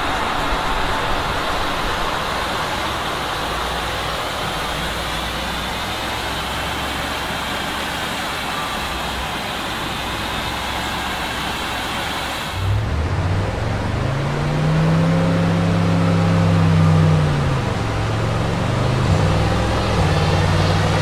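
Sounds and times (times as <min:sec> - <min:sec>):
low steady engine hum: 0:00.0 - 0:21.0.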